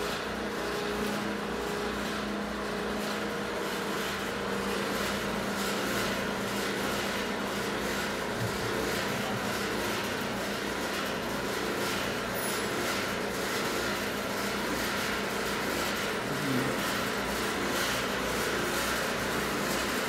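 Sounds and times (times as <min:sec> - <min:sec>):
oven machine hum: 0:00.0 - 0:20.0.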